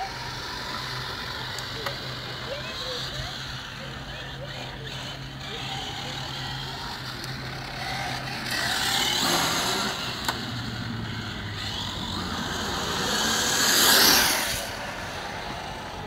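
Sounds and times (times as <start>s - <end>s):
rc car motor whirring: 0.0s - 16.0s.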